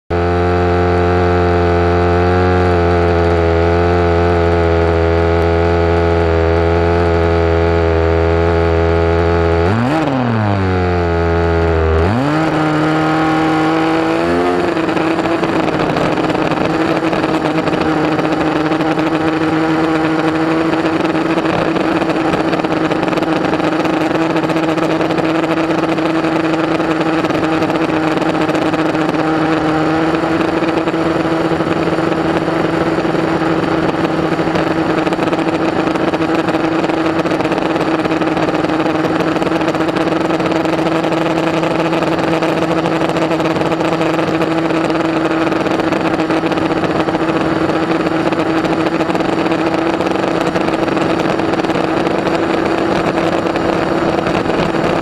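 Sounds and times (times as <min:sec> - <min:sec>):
two-stroke engine: 0:00.0 - 0:55.0.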